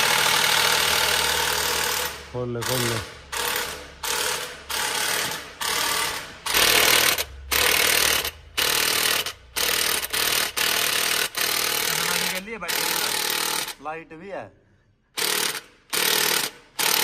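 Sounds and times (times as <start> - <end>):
impact wrench bursts: 0.0 - 13.8, 15.2 - 17.0.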